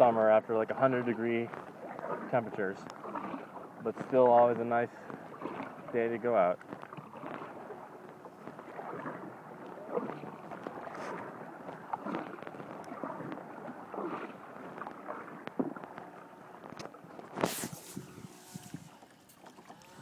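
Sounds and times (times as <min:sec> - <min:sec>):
water dripping and gurgling: 0:00.0 - 0:17.4
paddle splashing in water: 0:00.0 - 0:20.0.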